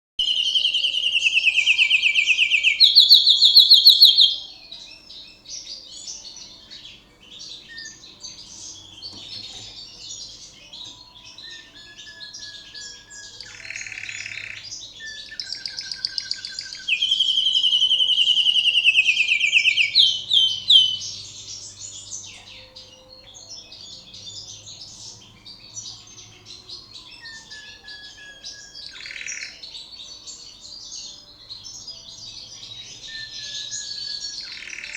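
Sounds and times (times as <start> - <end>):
canary singing: 0.2 - 34.9.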